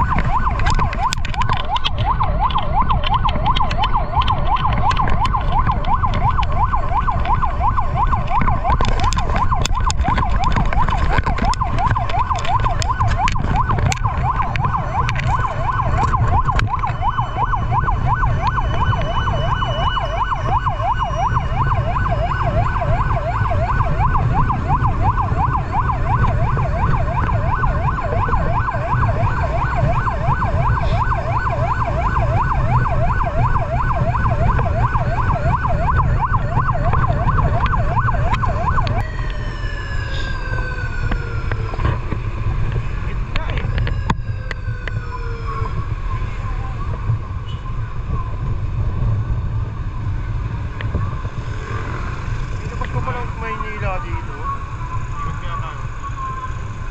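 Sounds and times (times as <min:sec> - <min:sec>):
fire truck siren yelping: 0:00.0 - 0:56.9
truck engine and road rumble: 0:00.0 - 0:56.9.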